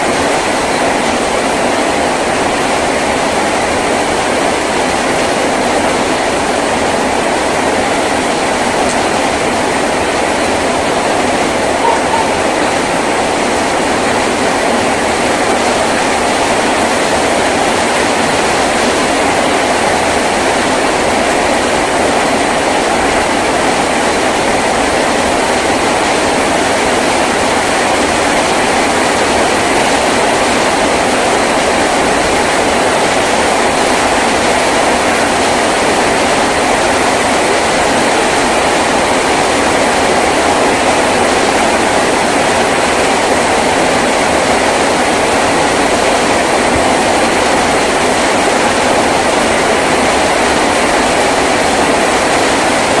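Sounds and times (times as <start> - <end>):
heavy rain on a tin roof: 0.0 - 53.0.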